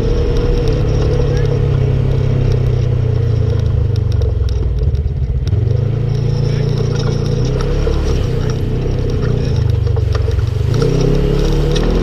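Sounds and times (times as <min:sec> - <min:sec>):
off-road vehicle engine running: 0:00.0 - 0:12.0
ticks and clatter: 0:00.0 - 0:12.0.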